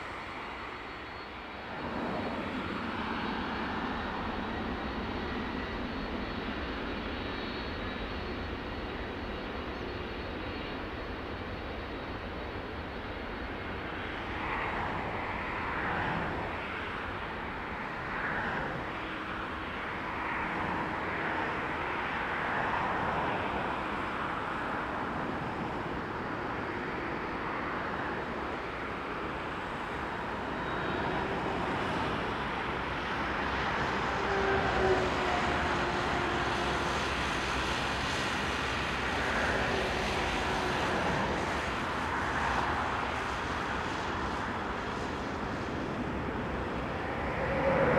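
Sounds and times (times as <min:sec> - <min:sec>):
jet engines rushing: 0:00.0 - 0:47.9.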